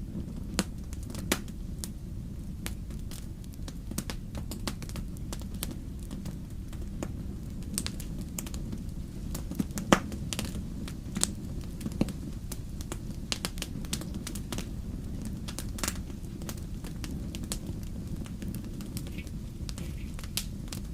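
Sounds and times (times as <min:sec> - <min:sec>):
fire crackling and popping: 0:00.0 - 0:20.9
fire flames rumbling: 0:00.0 - 0:20.9.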